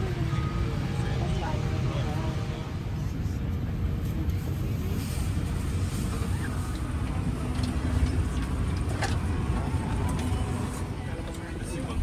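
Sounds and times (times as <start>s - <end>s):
aircraft cabin rumble and hiss: 0.0s - 12.0s.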